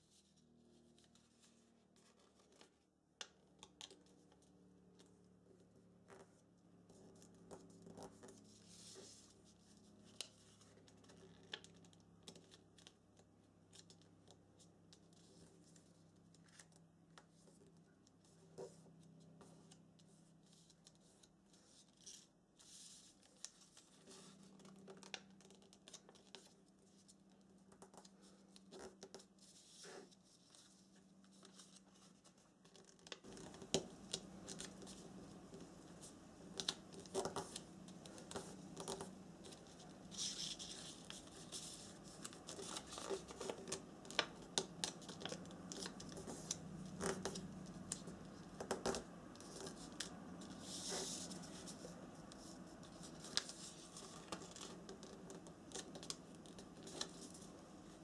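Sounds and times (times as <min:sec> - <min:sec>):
paper rustling and creasing: 0:06.9 - 0:58.0.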